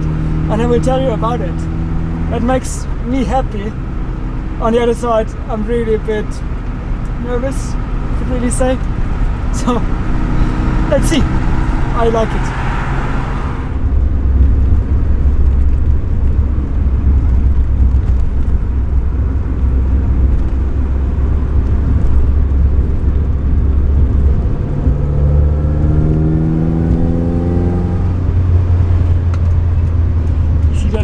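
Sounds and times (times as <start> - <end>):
car engine accelerating: 0.0 - 31.0
road noise: 0.0 - 31.0.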